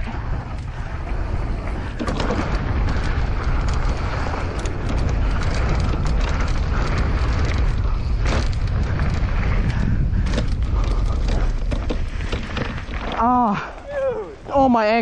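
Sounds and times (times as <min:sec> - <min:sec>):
bike rattling and clicking: 0:00.0 - 0:15.0
tyres on dirt: 0:00.0 - 0:15.0
wind rumble on microphone: 0:00.0 - 0:15.0.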